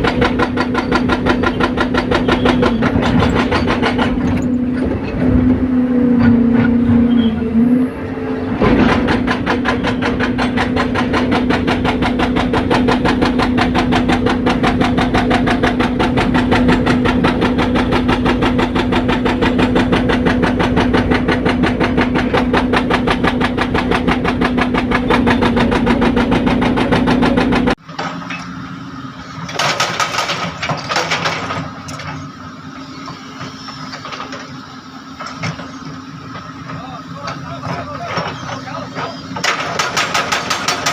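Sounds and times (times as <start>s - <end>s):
hydraulic breaker hammering asphalt: 0.0s - 4.5s, 8.6s - 28.3s, 29.4s - 32.1s, 33.1s - 40.9s
excavator engine drone: 0.0s - 40.9s.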